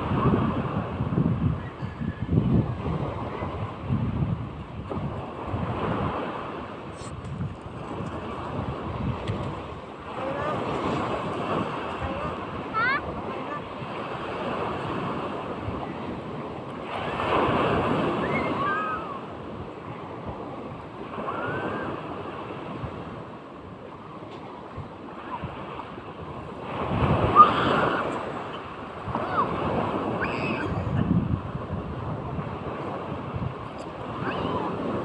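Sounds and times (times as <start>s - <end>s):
sea waves breaking: 0.0s - 35.0s
wind on microphone: 0.0s - 35.0s.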